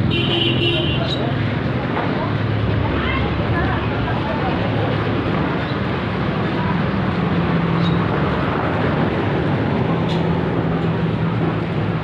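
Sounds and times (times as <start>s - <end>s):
street traffic hiss: 0.0s - 12.0s.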